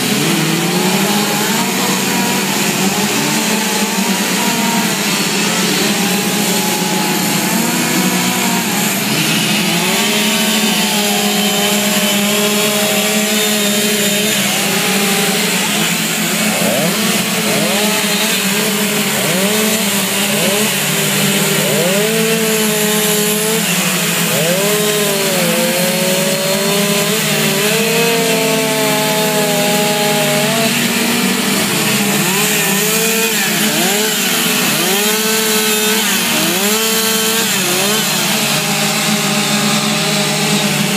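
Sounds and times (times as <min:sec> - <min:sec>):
chainsaw carving wood: 0:00.0 - 0:40.9.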